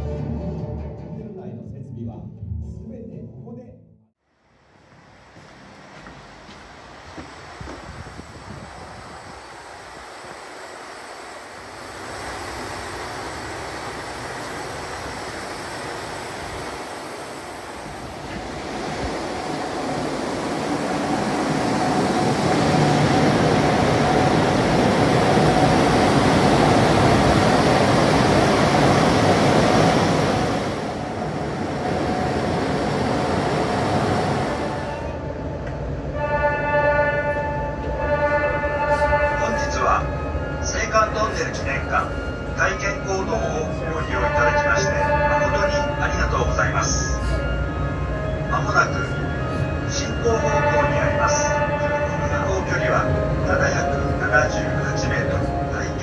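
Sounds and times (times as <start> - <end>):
cable car rumbling: 4.6 - 56.0.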